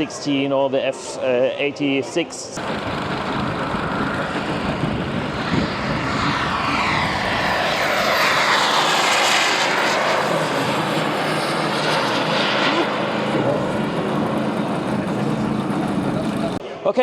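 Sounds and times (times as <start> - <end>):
model jet turbine flying past: 2.6 - 16.6.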